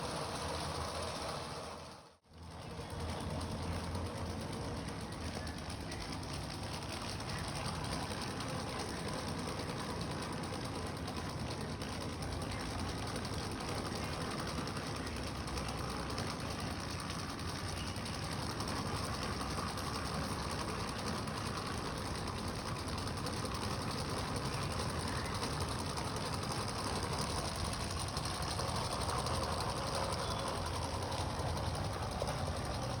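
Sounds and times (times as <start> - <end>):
small engine linkages clattering: 0.0 - 33.0.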